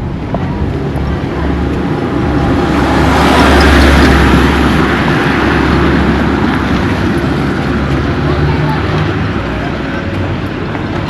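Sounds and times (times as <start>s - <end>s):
vehicle passing by: 0.8s - 11.0s.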